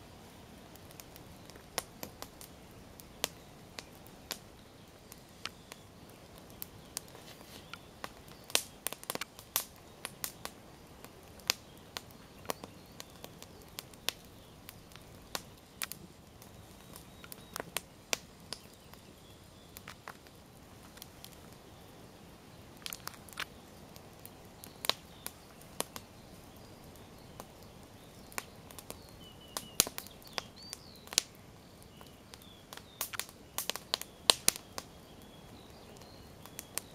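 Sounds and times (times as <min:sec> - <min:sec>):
bonfire crackling: 0:00.0 - 0:36.9
sharp pops of fire: 0:00.2 - 0:21.7, 0:22.7 - 0:36.9.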